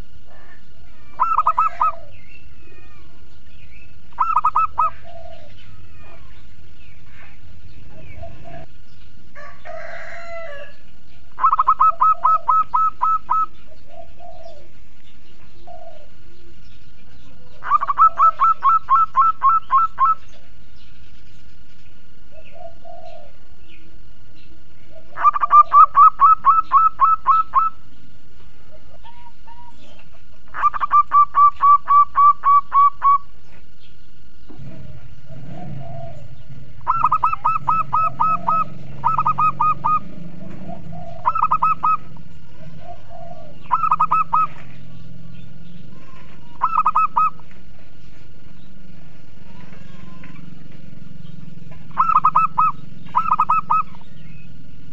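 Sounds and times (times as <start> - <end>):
dove cooing: 0.0 - 20.6, 22.0 - 33.8, 34.4 - 54.9.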